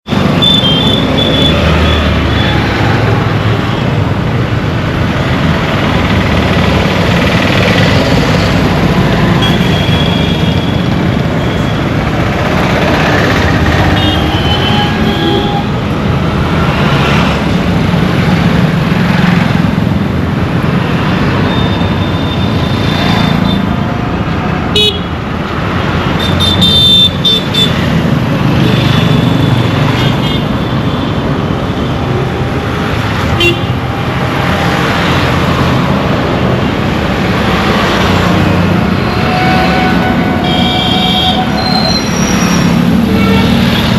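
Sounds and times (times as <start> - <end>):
dense road traffic: 0.0 - 43.9.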